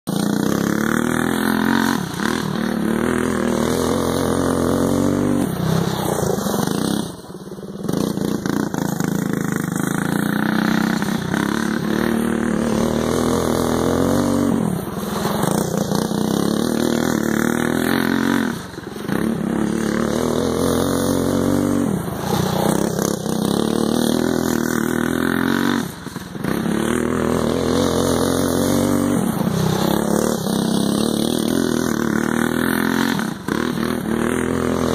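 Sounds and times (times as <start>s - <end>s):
go-kart engine revving: 0.1s - 34.9s.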